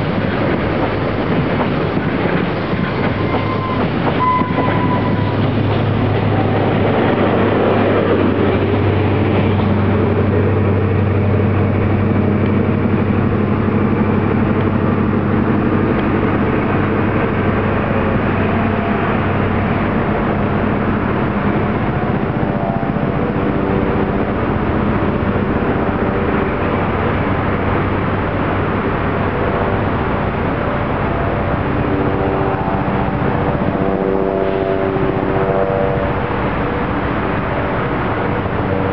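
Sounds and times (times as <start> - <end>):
diesel train engines droning: 0.0 - 38.9
higher steady hum: 0.0 - 38.9.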